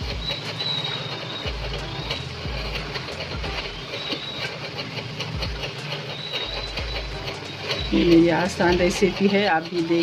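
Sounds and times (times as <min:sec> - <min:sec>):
wooden spoon scraping pan: 0:00.0 - 0:10.0.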